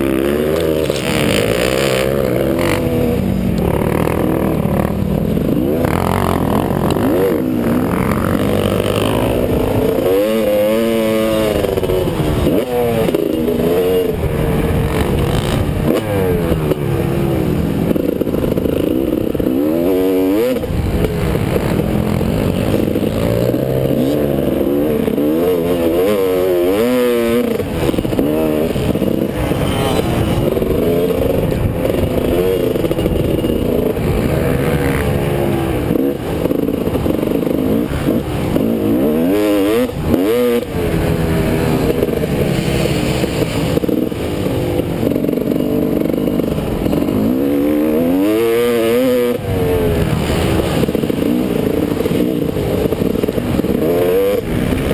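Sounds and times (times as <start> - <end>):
motocross engine revving: 0.0 - 54.9.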